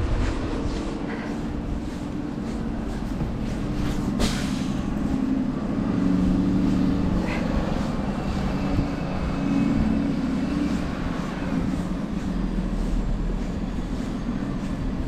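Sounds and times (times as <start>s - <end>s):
city street noise: 0.0s - 15.0s
vehicle engine rumble: 0.0s - 15.0s.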